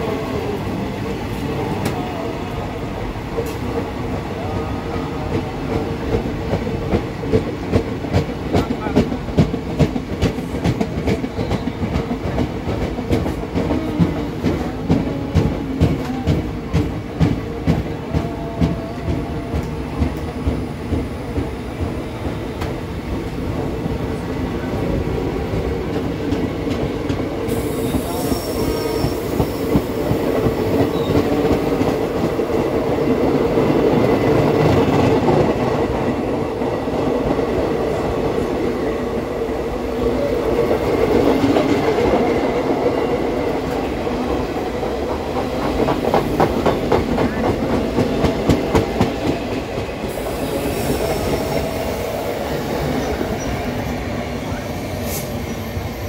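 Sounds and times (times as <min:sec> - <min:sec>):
train wheel rumble: 0:00.0 - 0:56.0.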